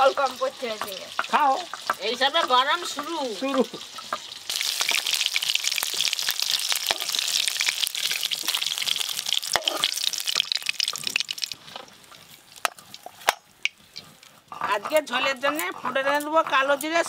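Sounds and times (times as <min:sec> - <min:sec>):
fish sizzling in hot oil: 0:00.0 - 0:15.1.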